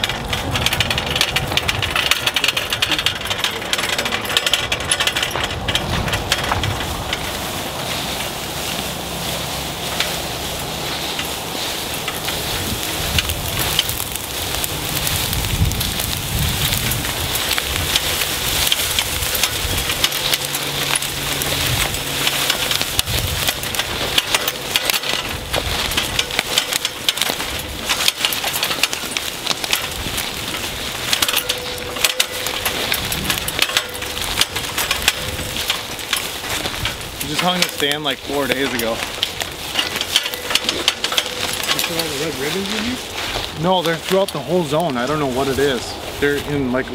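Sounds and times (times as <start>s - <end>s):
footsteps on dry leaves: 0.0s - 46.9s
metal ladder rattling: 0.0s - 46.9s.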